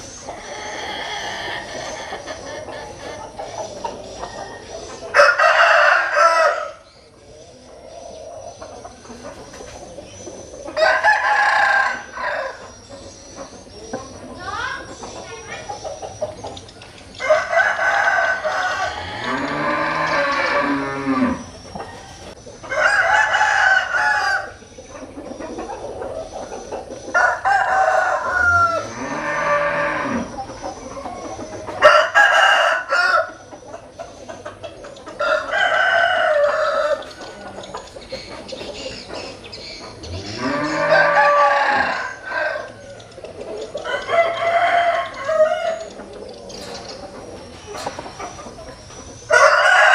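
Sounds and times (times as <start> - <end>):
roosters crowing: 0.0 - 15.1, 17.1 - 49.9.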